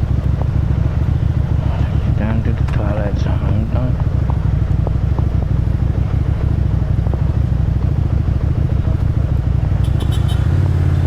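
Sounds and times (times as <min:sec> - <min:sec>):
motorcycle engine at steady throttle: 0:00.0 - 0:11.0.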